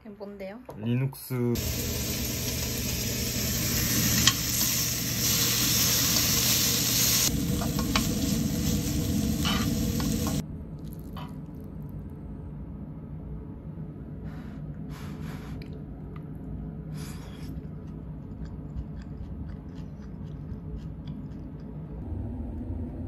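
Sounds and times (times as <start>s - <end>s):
low hum: 1.6s - 23.0s.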